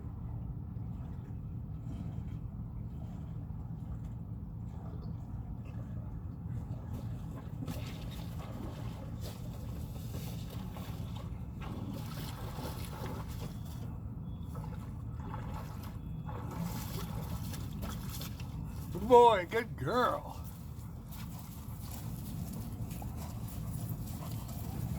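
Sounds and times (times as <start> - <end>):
boat engine low rumble: 0.0 - 24.9.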